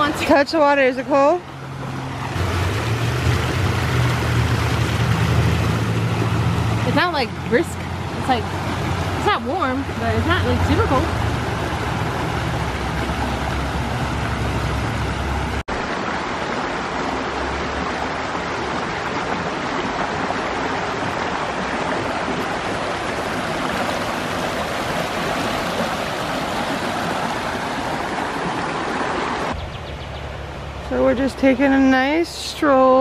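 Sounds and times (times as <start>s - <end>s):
creek water rushing over rocks: 0.0s - 29.6s.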